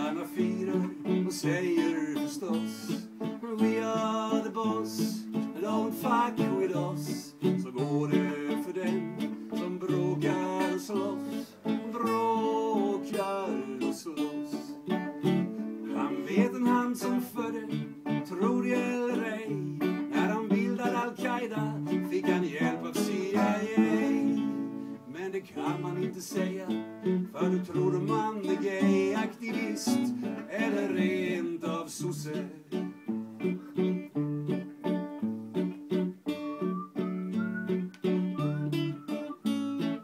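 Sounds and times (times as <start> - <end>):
acoustic guitars playing: 0.0 - 40.0.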